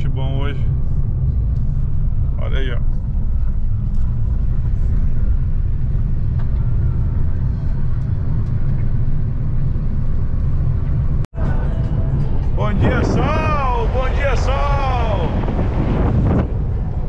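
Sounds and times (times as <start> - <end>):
car tyres and engine rumble: 0.0 - 17.0.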